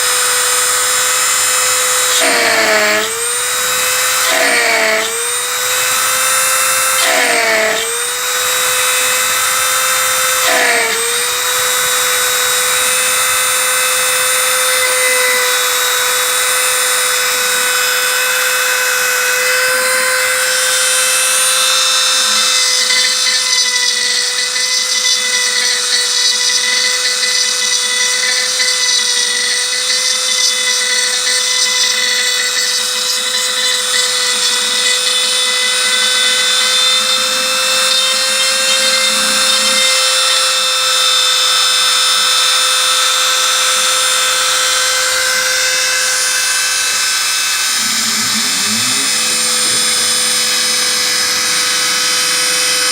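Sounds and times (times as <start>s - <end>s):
gritty metal cutting noise: 0.0s - 52.9s
router spindle whine: 0.0s - 52.9s.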